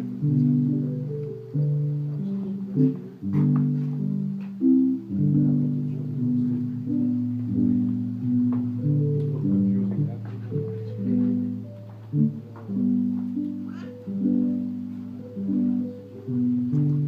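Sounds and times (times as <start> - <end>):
plucked string chords: 0.0 - 17.0.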